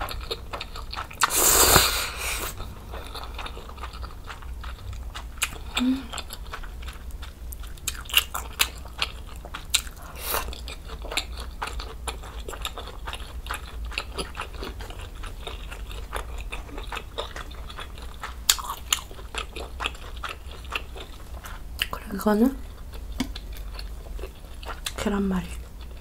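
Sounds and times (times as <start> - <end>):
close chewing with wet mouth clicks: 0.0 - 26.0.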